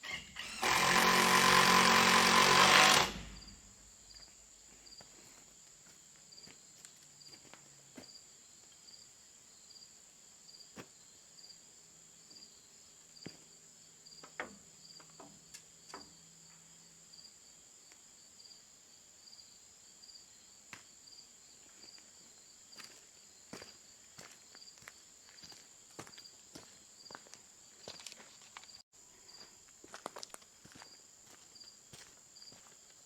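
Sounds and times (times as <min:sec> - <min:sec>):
crickets chirping: 0:03.4 - 0:33.0.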